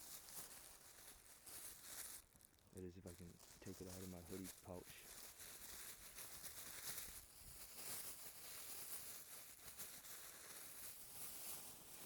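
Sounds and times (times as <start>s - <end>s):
clothing and bag rustling: 0.0s - 12.0s.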